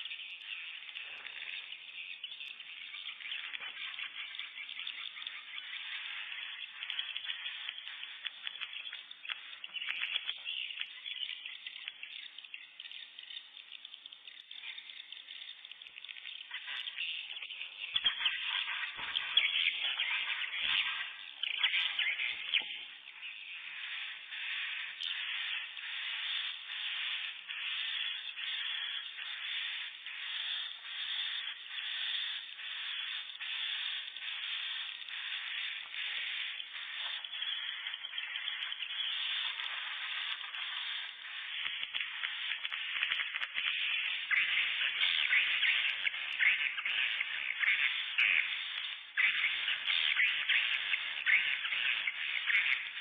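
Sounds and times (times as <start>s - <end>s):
swiftlets twittering: 0.0s - 53.0s.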